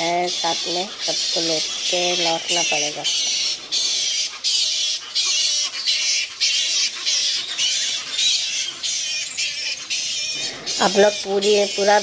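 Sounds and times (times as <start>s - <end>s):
fruit bats screeching: 0.0s - 12.0s.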